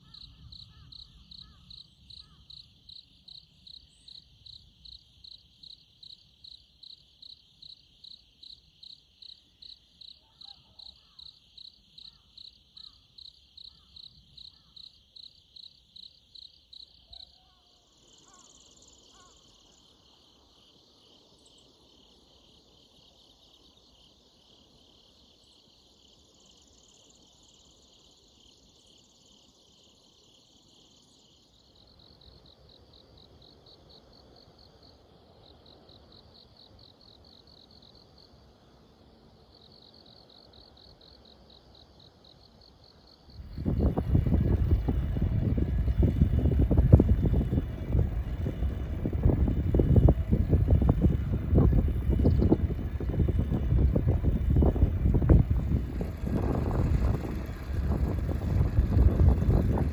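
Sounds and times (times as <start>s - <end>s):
insects chirping and trilling: 0.0s - 59.9s.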